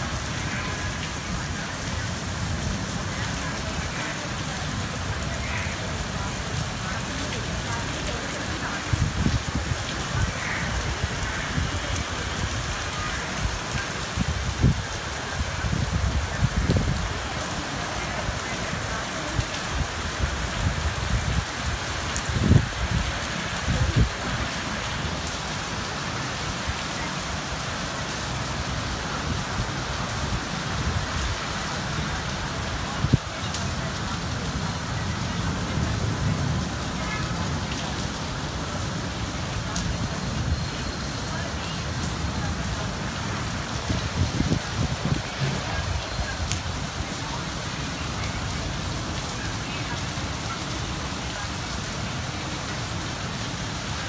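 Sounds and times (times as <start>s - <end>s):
rain on rooftops: 0.0s - 54.0s.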